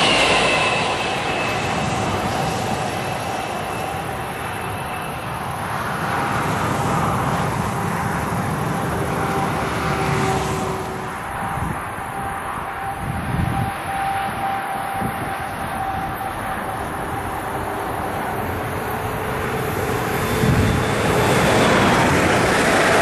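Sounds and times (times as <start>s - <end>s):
distant road traffic rumble: 0.0s - 23.0s
electric train whine: 0.0s - 23.0s.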